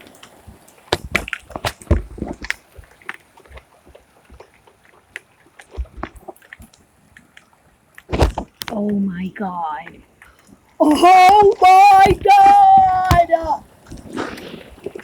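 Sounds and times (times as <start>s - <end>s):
rainwater dripping and splashing: 0.0s - 15.0s.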